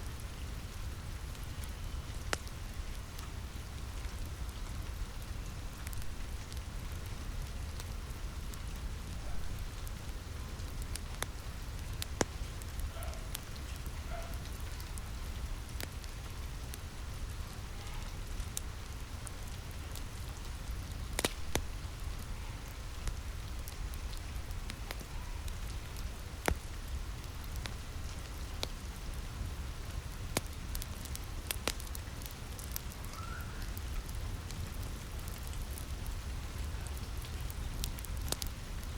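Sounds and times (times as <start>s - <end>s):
steady rain: 0.0s - 38.9s
wood fire pops and crackles: 0.0s - 38.9s.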